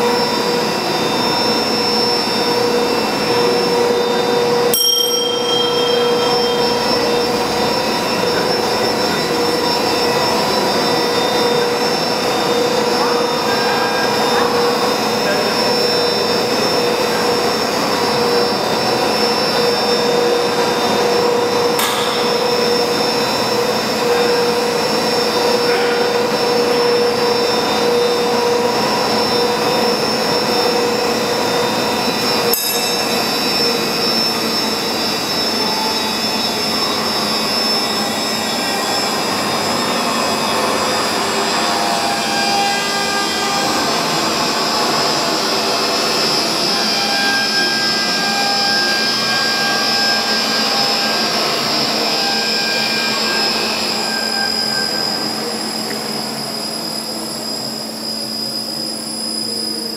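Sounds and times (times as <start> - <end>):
winding engine whine: 0.0 - 59.9.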